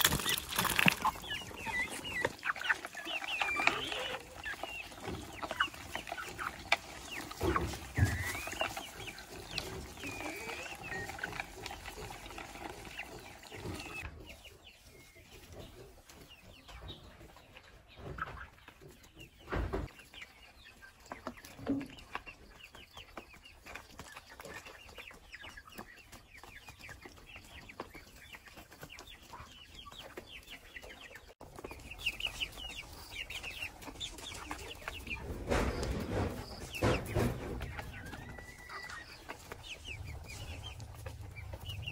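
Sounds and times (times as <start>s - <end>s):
chickens clucking softly: 0.1s - 41.9s.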